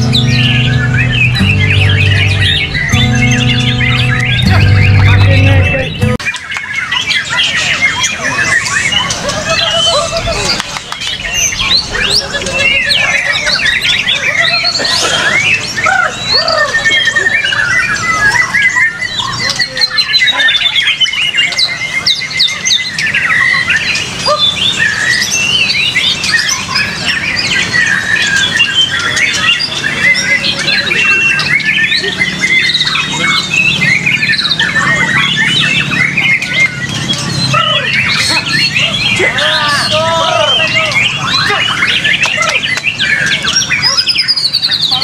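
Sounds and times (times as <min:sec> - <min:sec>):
songbirds whistling and trilling: 0:00.0 - 0:45.0.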